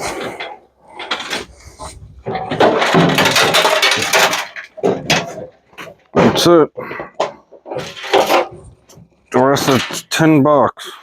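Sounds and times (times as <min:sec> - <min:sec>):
metal scrap clattering: 0:00.0 - 0:10.3.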